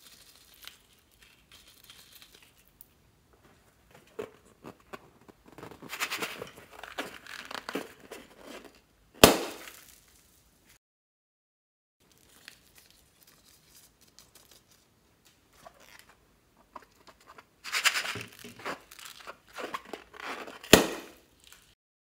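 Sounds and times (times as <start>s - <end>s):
rubber balloon crinkling: 0.0s - 10.4s, 12.0s - 21.8s.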